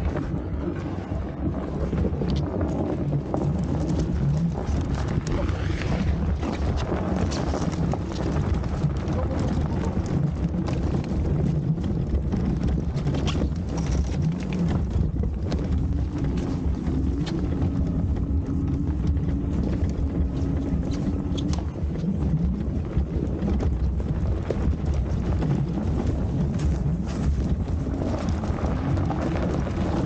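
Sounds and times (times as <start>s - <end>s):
low steady whine: 0.0s - 30.0s
tyres rumbling on snow: 0.0s - 30.0s.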